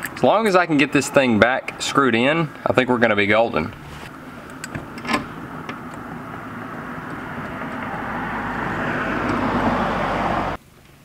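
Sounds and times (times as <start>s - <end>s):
passing vehicle engine rushing: 0.2s - 10.6s.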